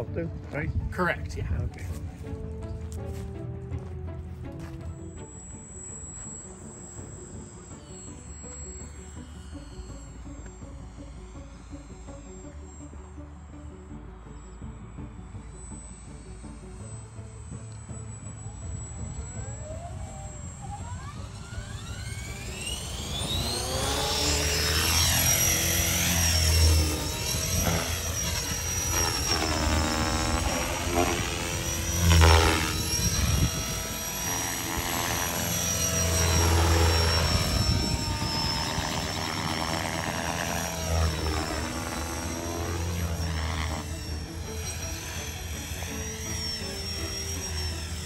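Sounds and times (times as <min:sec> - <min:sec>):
model helicopter rotor whine: 0:00.0 - 0:48.0.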